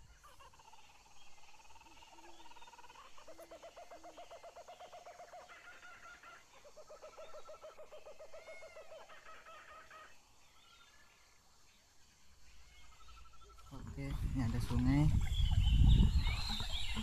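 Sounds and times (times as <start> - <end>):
birds trilling and whistling: 0.0 - 17.0.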